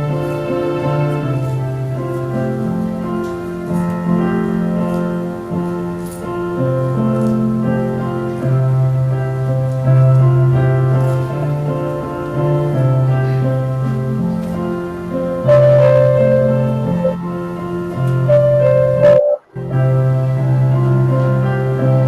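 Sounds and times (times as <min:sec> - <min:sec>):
slow keyboard chords: 0:00.0 - 0:22.0.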